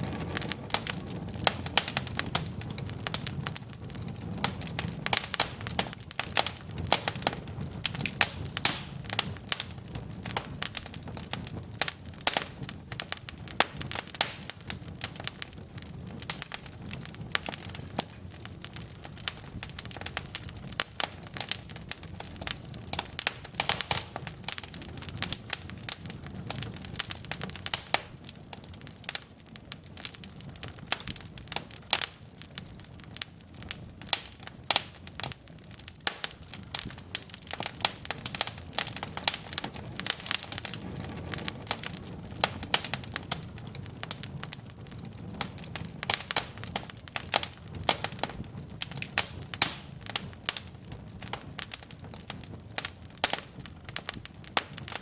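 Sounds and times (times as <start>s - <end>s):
burning logs crackling and popping: 0.0s - 55.0s
low rumble of flames: 0.0s - 55.0s.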